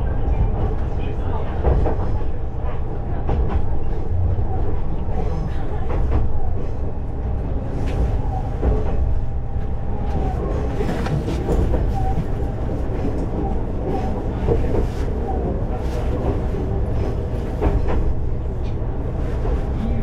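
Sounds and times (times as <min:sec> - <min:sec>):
train engine and wheels rumbling: 0:00.0 - 0:20.0.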